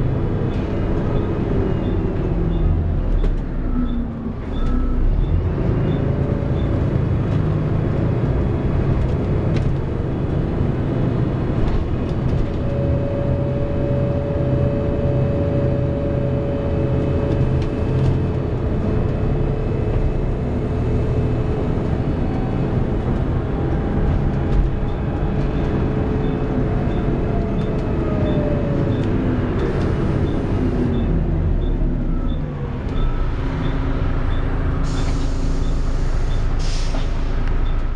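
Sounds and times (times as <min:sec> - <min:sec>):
bus engine rumble: 0:00.0 - 0:37.9
engine and fan whines: 0:00.0 - 0:37.9.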